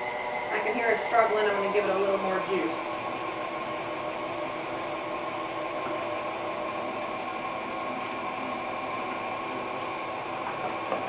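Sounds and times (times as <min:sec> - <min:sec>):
mixer motor humming: 0:00.0 - 0:11.0.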